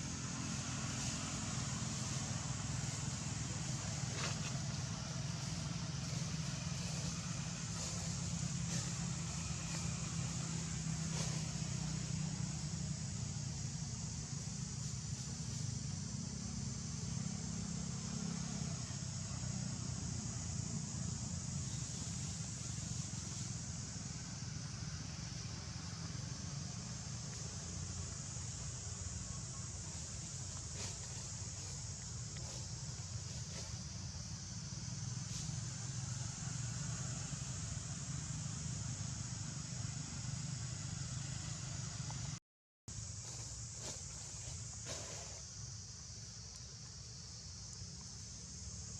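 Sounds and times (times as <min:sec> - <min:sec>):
constant high hiss: 0:00.0 - 0:48.9
high-pitched insect drone: 0:00.0 - 0:48.9.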